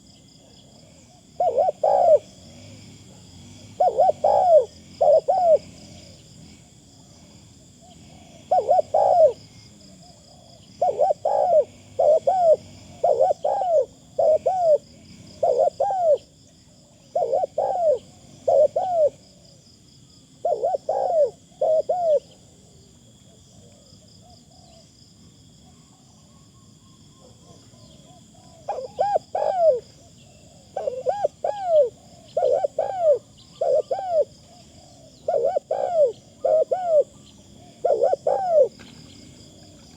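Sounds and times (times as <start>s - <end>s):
dove cooing: 0.0s - 19.6s, 20.4s - 24.9s, 27.2s - 39.9s.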